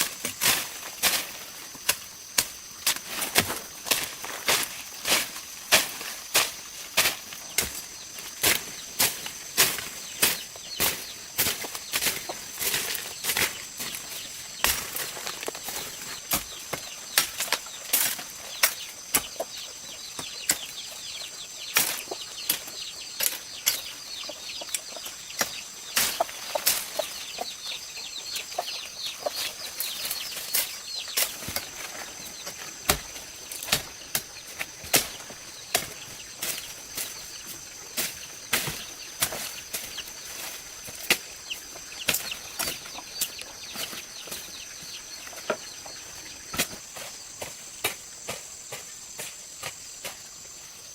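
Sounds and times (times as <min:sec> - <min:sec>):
high insect drone: 0:00.0 - 0:50.9
falling bird chirps: 0:03.1 - 0:49.2.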